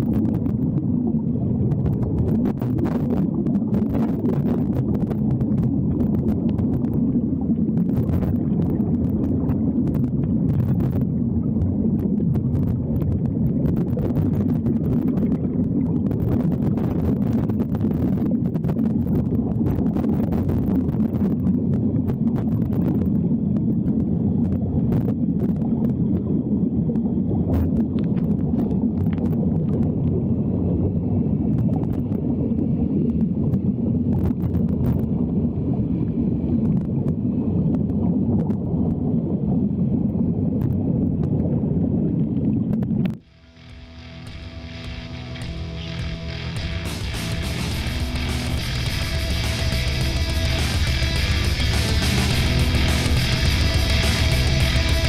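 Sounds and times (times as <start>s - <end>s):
bubbles crackling: 0.0s - 55.0s
muffled underwater rumble: 0.0s - 55.0s.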